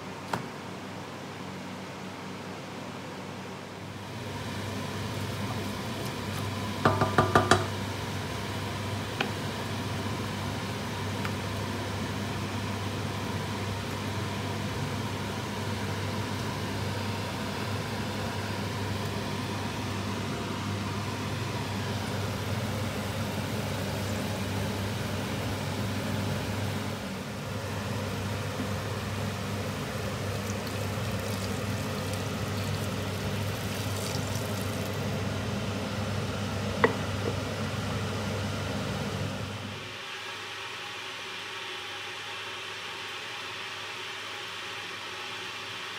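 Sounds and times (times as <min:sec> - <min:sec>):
mechanical hum with hiss: 0:00.0 - 0:45.9.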